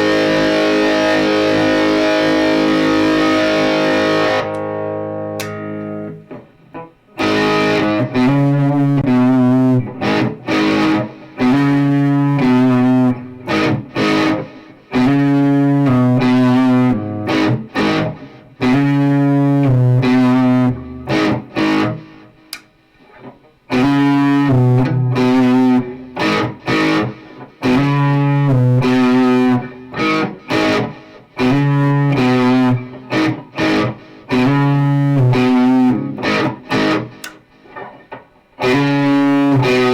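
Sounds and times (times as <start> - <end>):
distorted electric guitar riff: 0.0 - 39.9.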